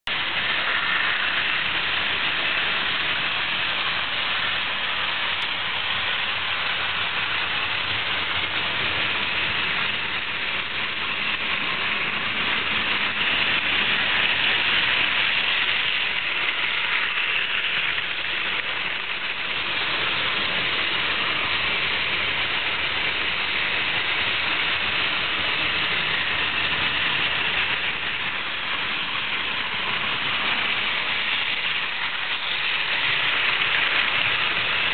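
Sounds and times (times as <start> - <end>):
model trains rattling on track: 0.1 - 34.9.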